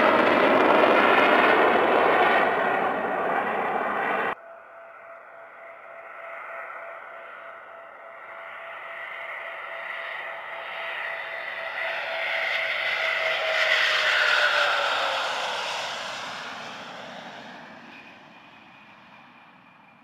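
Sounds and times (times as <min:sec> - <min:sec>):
jet passing low: 0:00.0 - 0:20.0.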